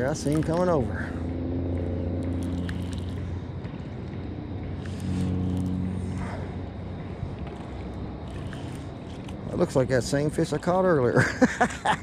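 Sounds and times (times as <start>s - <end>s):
boat engine humming: 0.0s - 10.8s.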